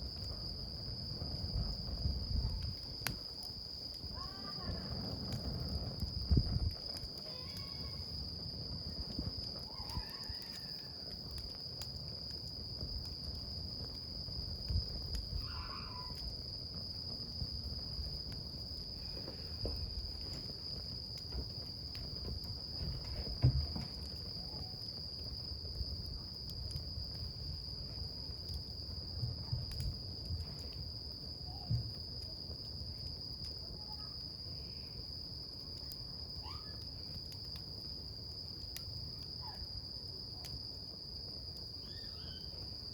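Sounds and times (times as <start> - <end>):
campfire crackling: 0.0 - 42.9
fire pops: 0.0 - 42.9
insect trill: 0.0 - 42.9.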